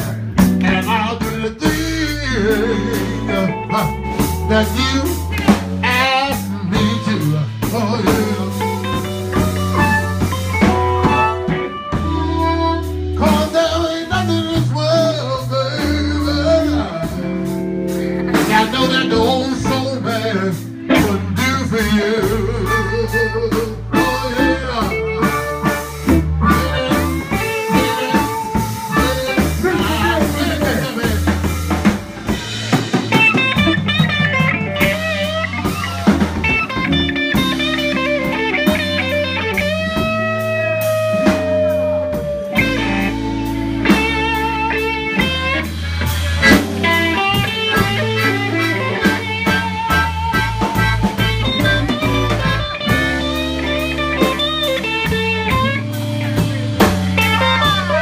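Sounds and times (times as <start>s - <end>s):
blues band playing: 0.0s - 58.0s.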